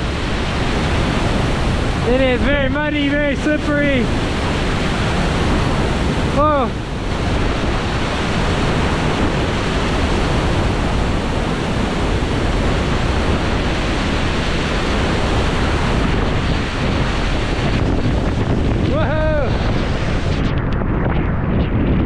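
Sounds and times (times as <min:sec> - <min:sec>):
waterfall rushing: 0:00.0 - 0:20.4
wind buffeting microphone: 0:00.0 - 0:22.0.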